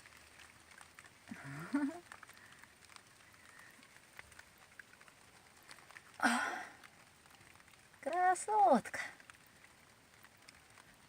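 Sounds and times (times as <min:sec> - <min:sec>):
small ticks: 0:00.0 - 0:11.0.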